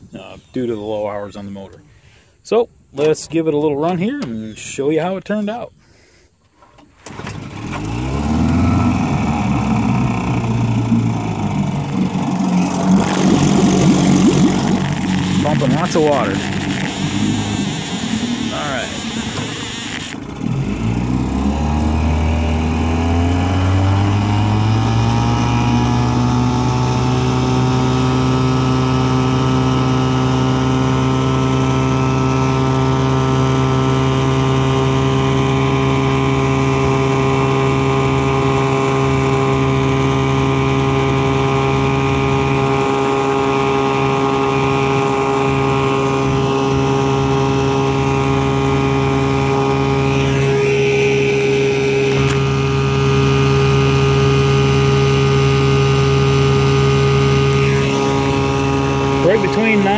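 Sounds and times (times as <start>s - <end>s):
outboard motor running: 6.9s - 59.9s.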